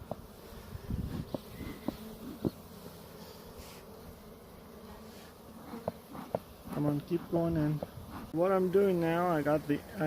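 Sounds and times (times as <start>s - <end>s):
bee swarm buzzing: 0.0s - 10.0s.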